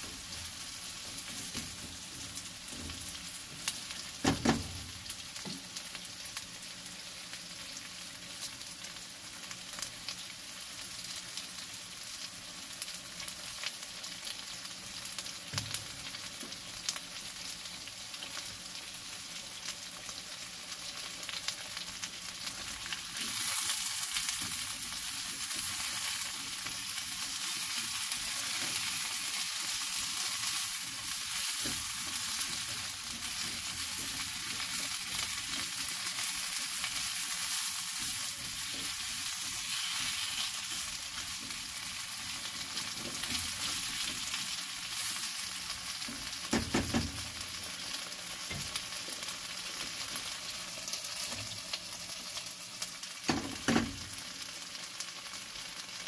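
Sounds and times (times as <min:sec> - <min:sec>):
potatoes and onion sizzling: 0:00.0 - 0:56.0.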